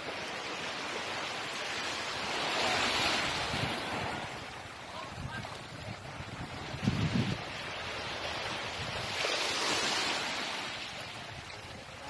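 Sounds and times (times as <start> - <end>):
small waves washing on beach: 0.0 - 12.0.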